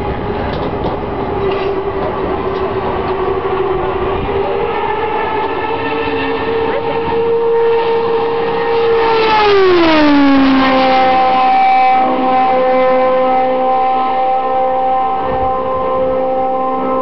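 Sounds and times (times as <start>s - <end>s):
race car passing at speed: 0.0s - 17.0s.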